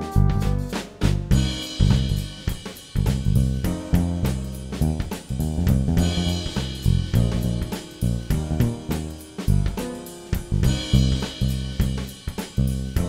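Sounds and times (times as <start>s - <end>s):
music with drums and bass: 0.0s - 13.0s.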